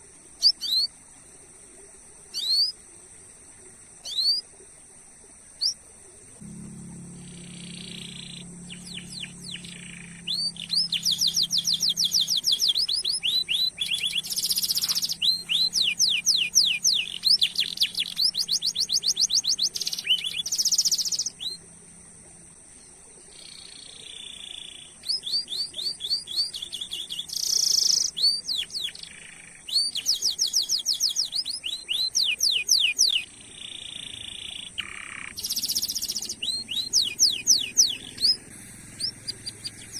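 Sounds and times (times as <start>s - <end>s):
canary singing trills: 0.0s - 1.0s, 2.3s - 2.8s, 4.0s - 4.5s, 6.4s - 22.4s, 23.2s - 39.9s.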